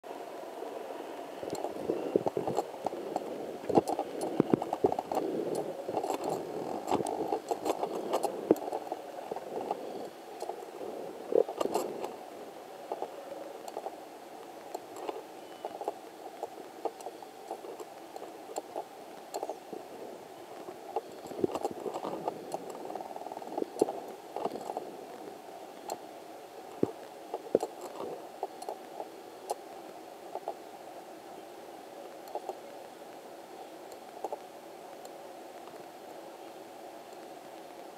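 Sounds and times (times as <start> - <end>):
irregular crackles: 0.7 - 37.9.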